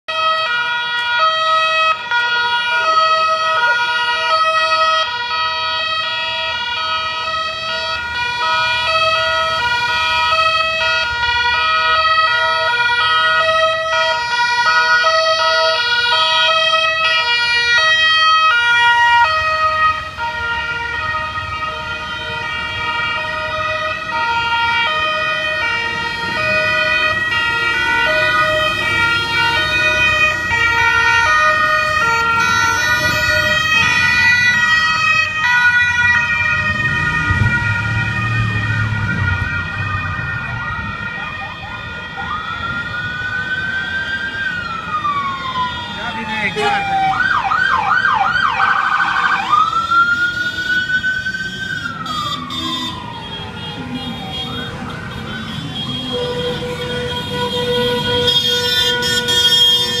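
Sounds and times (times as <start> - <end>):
two-tone police sirens: 0.0 - 60.0.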